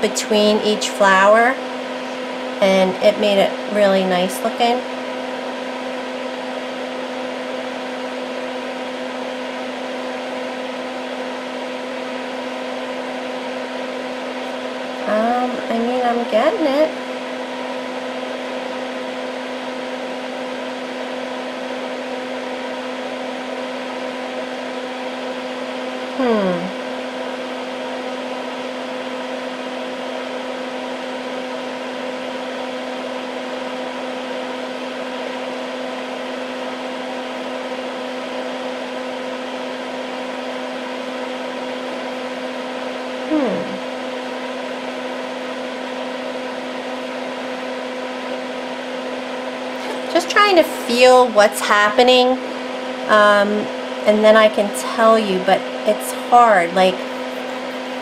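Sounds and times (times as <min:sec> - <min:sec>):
fan humming: 0:00.0 - 0:58.0.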